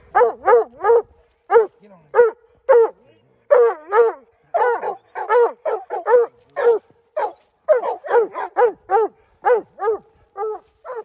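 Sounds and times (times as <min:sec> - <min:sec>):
hound barking rapidly: 0:00.1 - 0:11.0.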